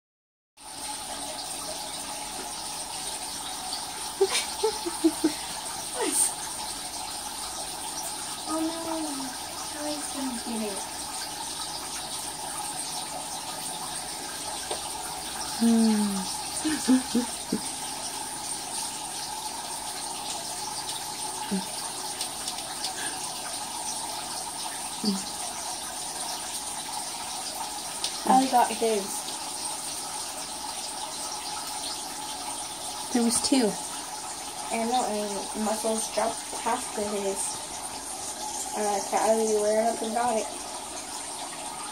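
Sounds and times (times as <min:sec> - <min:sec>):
aquarium filter water rushing: 0:00.6 - 0:41.9.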